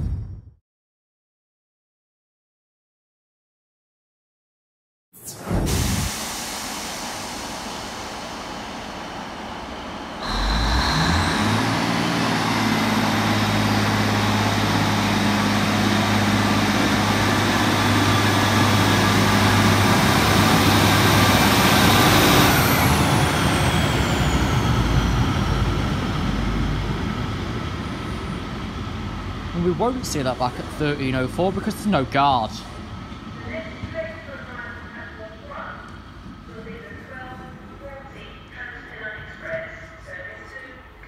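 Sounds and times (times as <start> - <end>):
diesel railcar engine with whine: 5.2 - 41.0.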